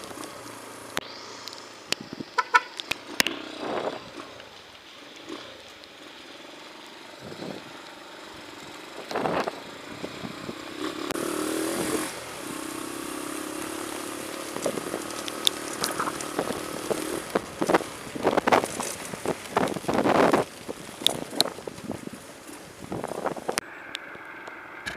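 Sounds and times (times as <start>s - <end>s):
rain hissing: 0.0s - 23.6s
vehicle engine running: 0.0s - 24.9s.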